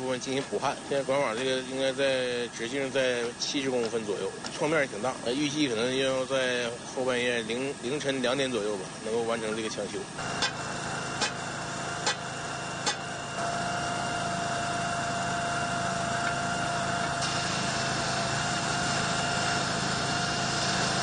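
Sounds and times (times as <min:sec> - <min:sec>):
steady whine: 0:00.0 - 0:21.0
welding hiss: 0:00.0 - 0:21.0.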